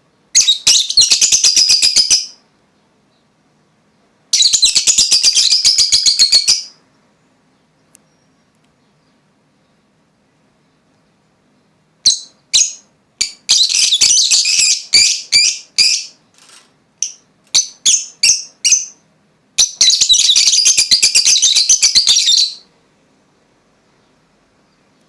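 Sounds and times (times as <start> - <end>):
lovebirds chirping and twittering: 0.4 - 9.9, 10.6 - 19.0, 19.6 - 22.6.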